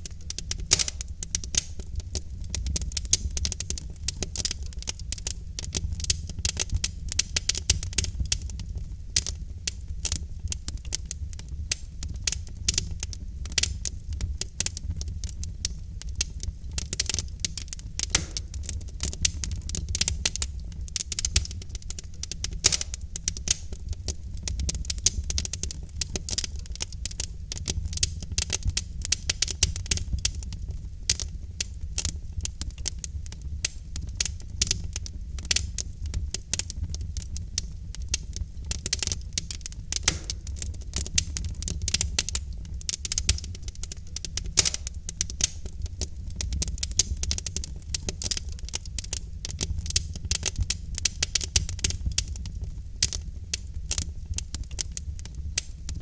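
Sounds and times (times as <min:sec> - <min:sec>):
wood logs crackling in fireplace: 0:00.0 - 0:56.0.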